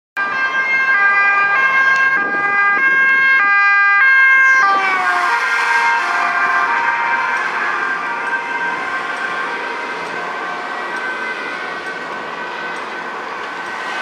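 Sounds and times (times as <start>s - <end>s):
two-tone police siren passing: 0.2s - 14.0s.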